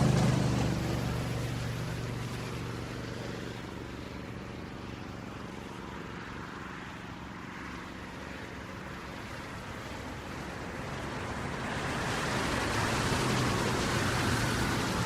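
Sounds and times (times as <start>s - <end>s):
passing vehicle hum: 0.0s - 15.0s
tyres hissing on wet road: 0.0s - 15.0s.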